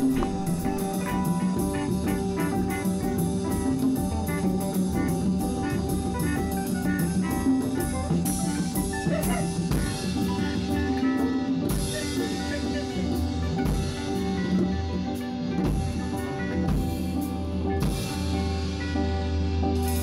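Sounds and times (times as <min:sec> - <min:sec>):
steady drum beat: 0:00.0 - 0:18.2
jazz piano: 0:00.0 - 0:20.0.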